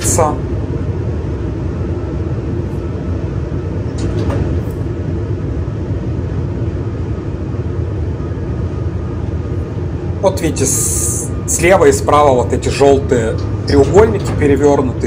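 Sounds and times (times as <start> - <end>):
faint whine: 0.0 - 15.0
train running rumble: 0.0 - 15.0.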